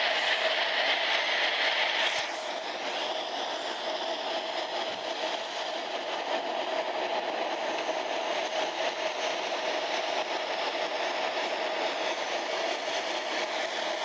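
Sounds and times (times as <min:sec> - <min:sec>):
train rumbling in tunnel: 0:00.0 - 0:14.0.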